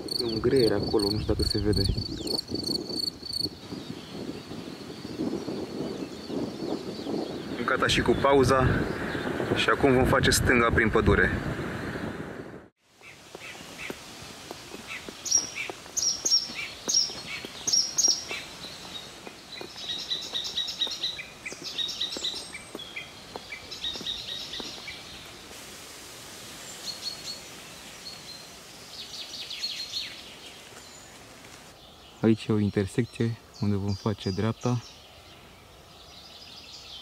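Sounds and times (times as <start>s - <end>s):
songbirds chirping: 0.0s - 10.4s, 12.9s - 25.7s, 26.3s - 37.0s.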